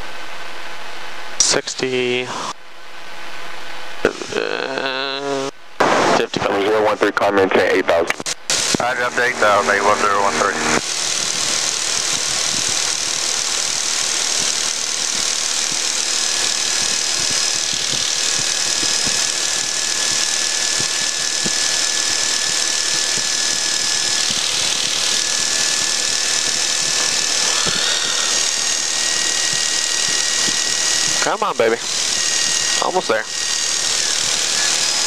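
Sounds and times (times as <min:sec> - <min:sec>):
piston engine drone: 0:03.4 - 0:06.4, 0:07.0 - 0:35.0.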